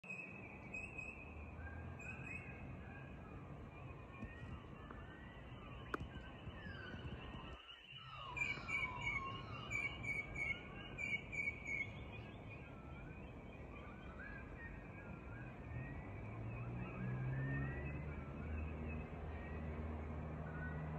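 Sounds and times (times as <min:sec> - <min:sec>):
birds singing and calling: 0:00.1 - 0:20.9.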